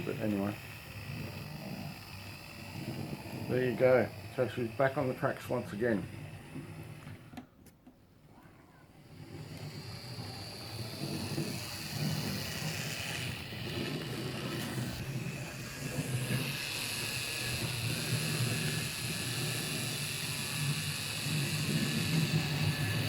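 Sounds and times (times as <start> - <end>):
wheels humming on rail: 0.0 - 7.4, 8.9 - 23.0
small electric motor whine: 0.0 - 7.5, 8.2 - 23.0.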